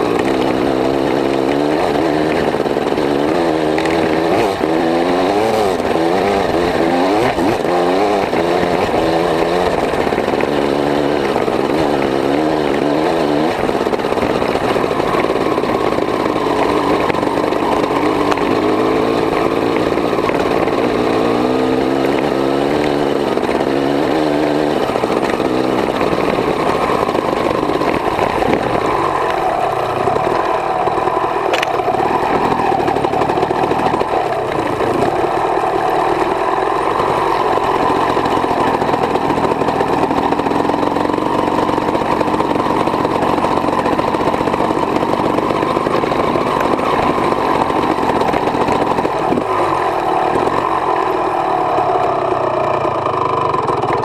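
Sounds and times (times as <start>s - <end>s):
two-stroke motocross engine: 0.0s - 54.0s.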